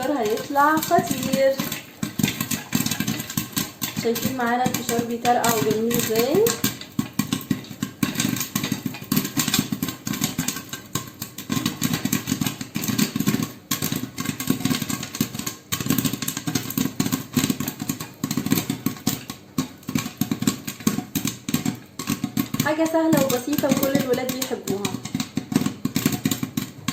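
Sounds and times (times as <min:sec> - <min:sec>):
popcorn popping in a pot: 0:00.0 - 0:26.9.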